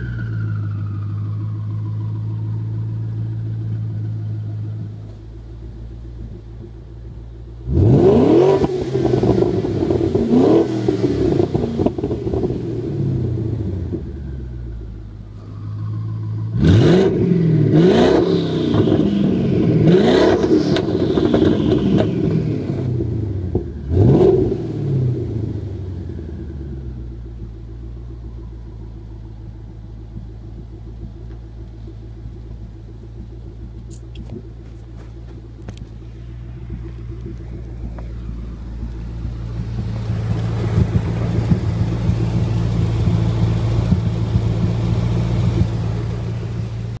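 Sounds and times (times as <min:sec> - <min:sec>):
car engine revving: 0:00.0 - 0:47.0
car engine rumbling idle: 0:00.0 - 0:47.0.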